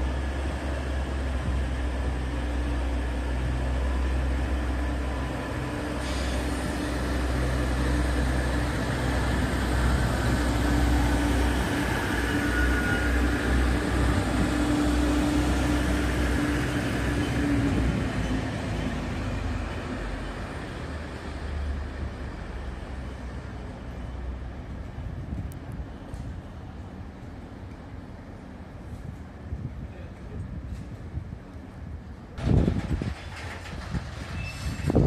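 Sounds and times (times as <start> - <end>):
diesel railcar rumbling past: 0.0 - 35.0.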